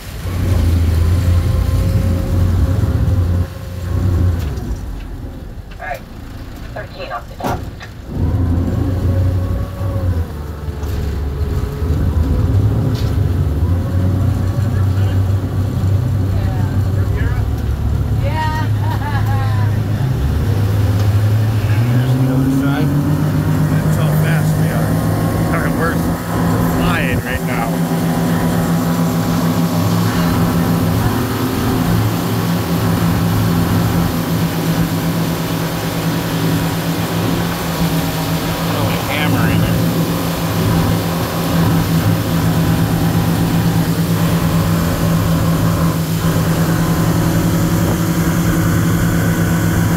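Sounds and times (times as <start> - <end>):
wake and spray rushing: 0.0 - 5.6, 7.7 - 49.9
motorboat engine rumbling: 0.0 - 49.9.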